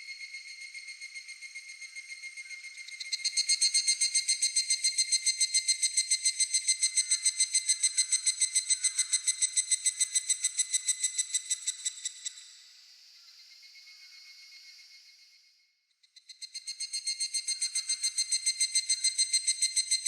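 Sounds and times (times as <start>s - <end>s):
cicada calling in ringing pulses: 0.0s - 12.6s, 16.1s - 20.0s
steady high insect tone: 0.0s - 15.4s, 16.1s - 20.0s.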